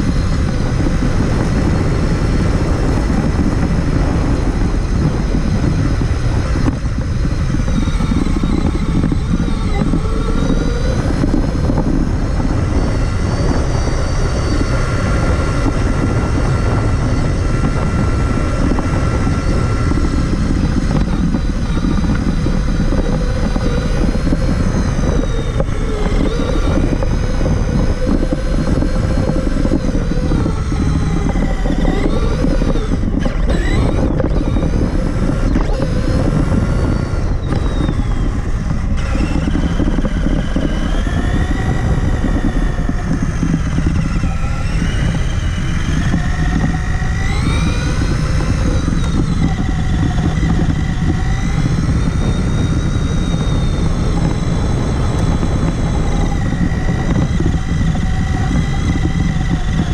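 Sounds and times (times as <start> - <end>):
chassis rumble and rattle: 0.0 - 59.9
electric motor and gearbox whine: 0.0 - 59.9.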